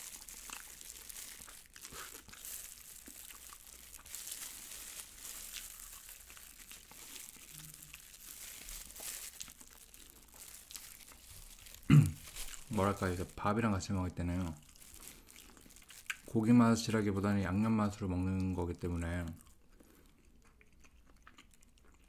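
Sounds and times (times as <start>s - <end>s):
chewing fried chicken: 0.0s - 13.7s, 14.3s - 22.0s
plastic glove crinkling: 0.0s - 19.4s.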